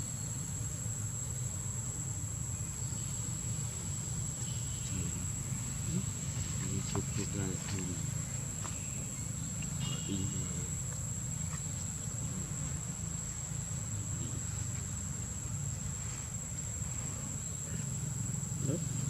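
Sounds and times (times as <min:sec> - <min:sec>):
continuous low rumble: 0:00.0 - 0:19.0
high-pitched insect drone: 0:00.0 - 0:19.0.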